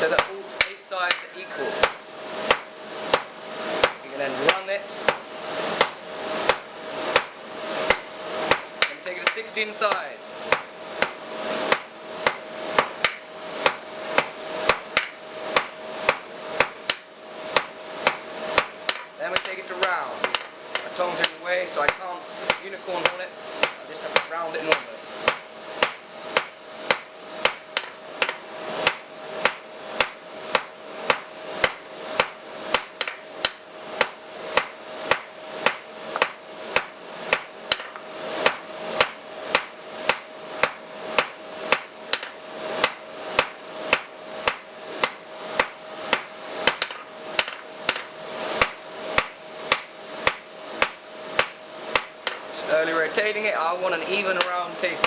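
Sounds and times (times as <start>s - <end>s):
hammer striking steel on anvil: 0.1s - 52.5s, 54.3s - 54.7s.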